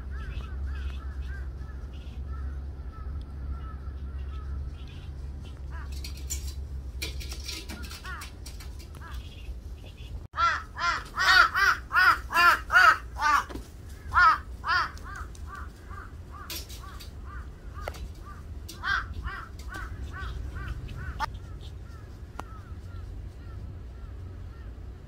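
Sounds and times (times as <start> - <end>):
crows cawing: 0.0 - 6.2, 7.5 - 9.2, 10.4 - 24.9.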